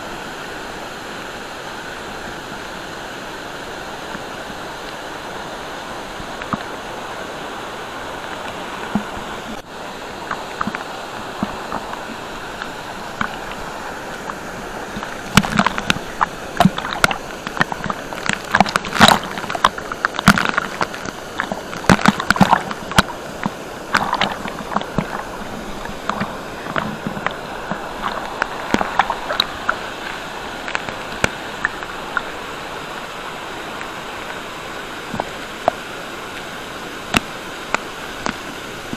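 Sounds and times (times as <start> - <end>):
water splashing: 0.0 - 38.9
waterfall rushing: 0.0 - 38.9.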